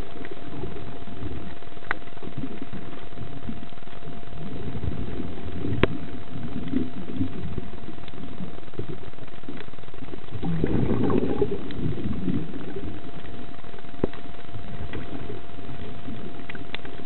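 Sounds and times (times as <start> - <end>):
bubbling underwater: 0.0 - 17.0
faint constant hum: 0.0 - 17.0
low underwater rumble: 0.0 - 17.0.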